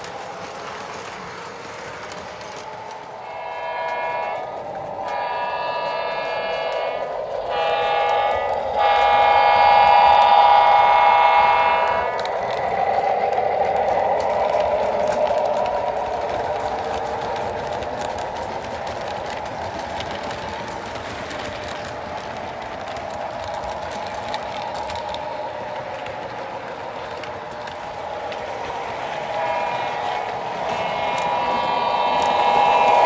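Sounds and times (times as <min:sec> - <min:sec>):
model train motor whir and rumble: 0:05.1 - 0:33.0.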